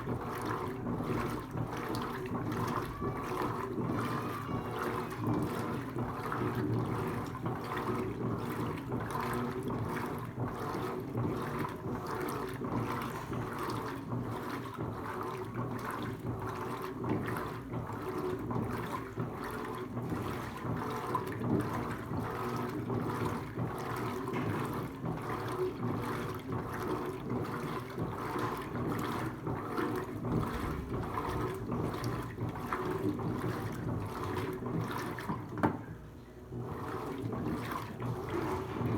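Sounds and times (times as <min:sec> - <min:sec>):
washing machine low hum: 0:00.0 - 0:38.9
washing machine water churning: 0:00.0 - 0:38.9.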